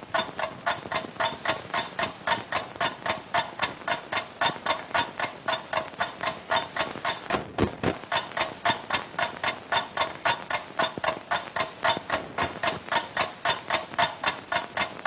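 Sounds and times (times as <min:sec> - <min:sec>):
film crackle clicks: 0:00.0 - 0:15.0
hissing rhythmic percussion: 0:00.0 - 0:15.0.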